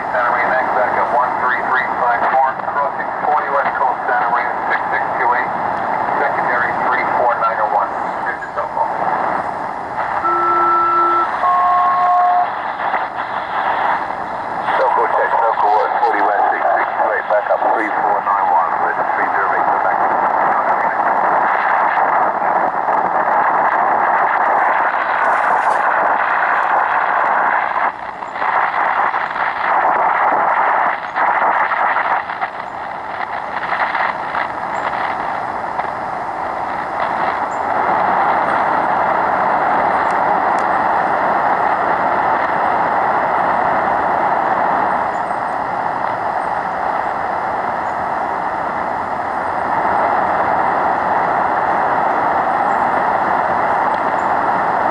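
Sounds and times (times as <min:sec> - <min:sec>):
radio static hiss: 0:00.0 - 0:54.9.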